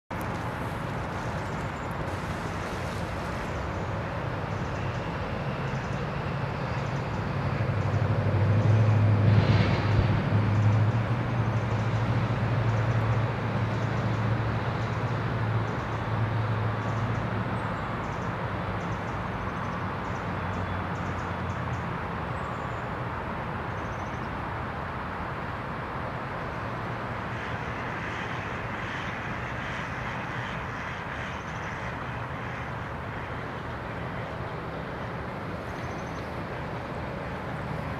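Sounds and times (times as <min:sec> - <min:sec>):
outdoor background hiss: 0:00.1 - 0:09.2, 0:10.3 - 0:37.9
passing vehicle engine hum: 0:00.1 - 0:37.9.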